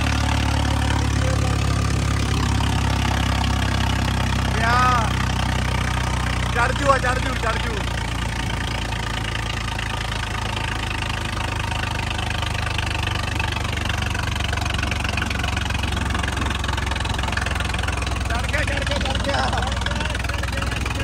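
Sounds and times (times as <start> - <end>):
road and wind noise: 0.0 - 21.0
tractor diesel engine running: 0.0 - 21.0.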